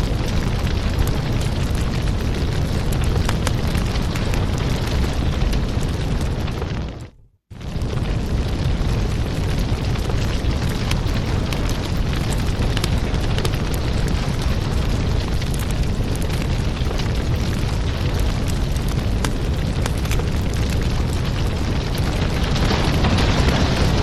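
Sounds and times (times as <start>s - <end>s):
fireplace crackling: 0.0s - 24.0s.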